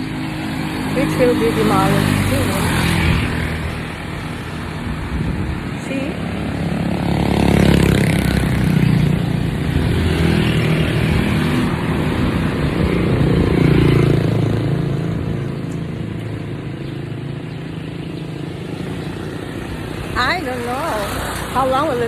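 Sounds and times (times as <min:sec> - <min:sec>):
traffic passing: 0:00.0 - 0:22.0.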